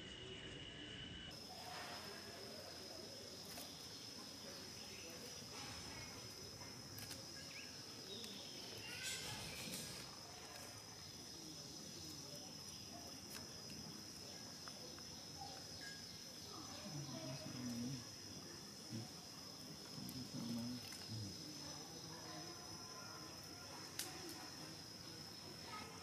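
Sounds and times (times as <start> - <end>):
faint outdoor background noise: 0.0 - 26.0
high-pitched insect trill: 0.0 - 26.0.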